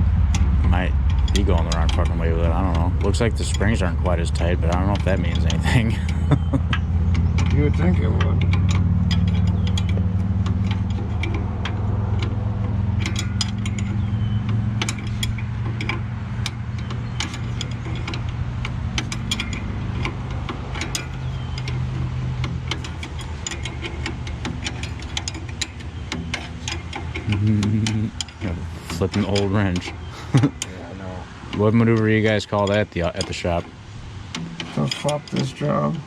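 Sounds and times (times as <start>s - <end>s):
diesel engine idling: 0.0s - 36.0s
wrench clicking on metal: 0.2s - 30.8s, 31.4s - 35.6s.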